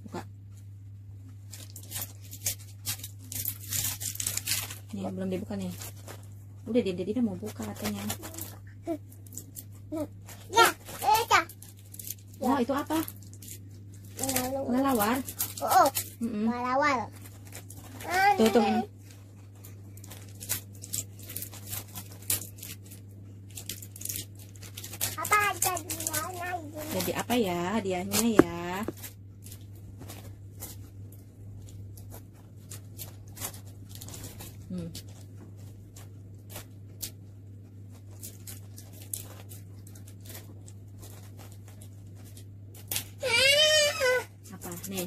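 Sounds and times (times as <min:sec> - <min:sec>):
steady low hum: 0:00.0 - 0:45.0
plastic clicks and crinkles: 0:01.3 - 0:06.4, 0:07.2 - 0:43.3.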